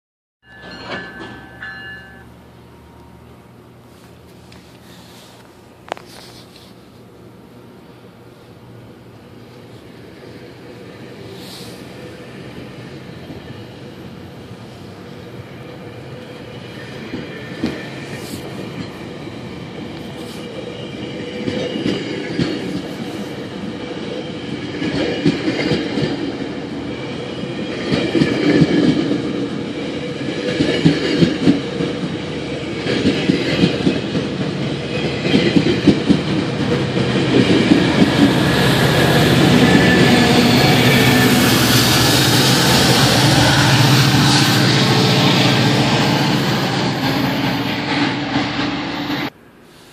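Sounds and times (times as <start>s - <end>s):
train rolling past: 0.4s - 49.6s.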